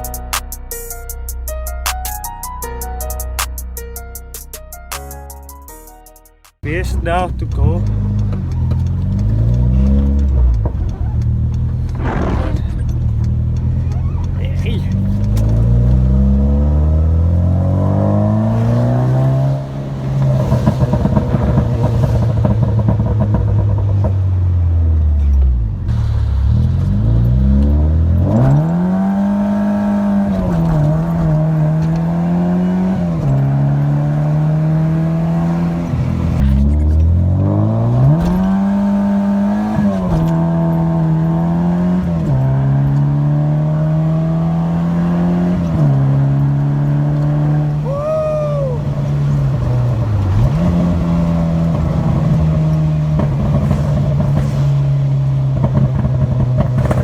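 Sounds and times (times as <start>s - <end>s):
car engine revving: 6.6s - 57.0s.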